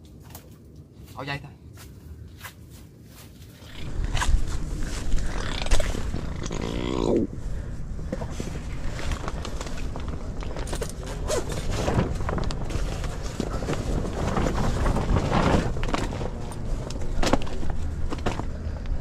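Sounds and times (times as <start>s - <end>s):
low rumble: 3.6s - 19.0s.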